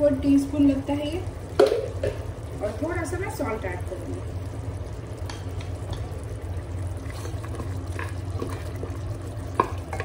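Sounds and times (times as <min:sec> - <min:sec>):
gravy bubbling: 0:00.0 - 0:10.0
steady low hum: 0:00.0 - 0:10.0.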